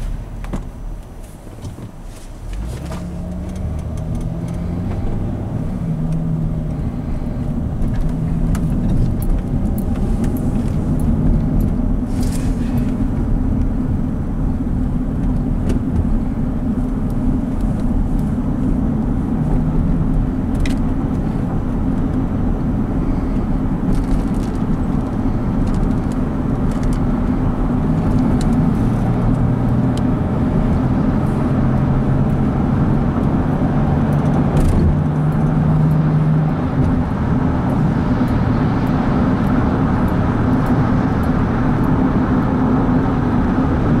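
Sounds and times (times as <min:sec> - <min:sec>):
engine and tyre road noise: 0:00.0 - 0:44.0
low engine hum rising in pitch: 0:00.0 - 0:44.0.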